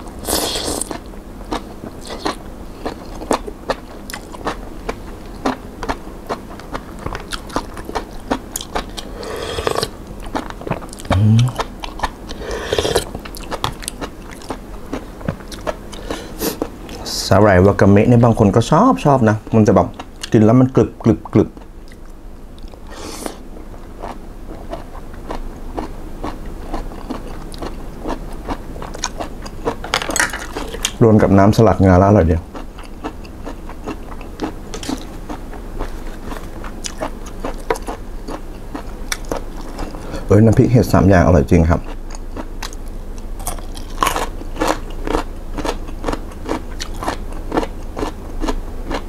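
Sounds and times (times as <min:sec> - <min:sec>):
crunchy chewing: 0:00.0 - 0:17.3, 0:21.2 - 0:40.6, 0:41.7 - 0:49.0.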